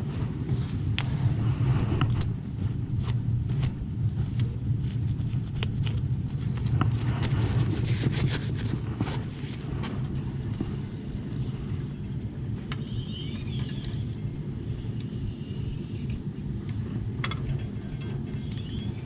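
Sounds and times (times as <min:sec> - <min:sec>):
boiler rumbling: 0:00.0 - 0:19.0.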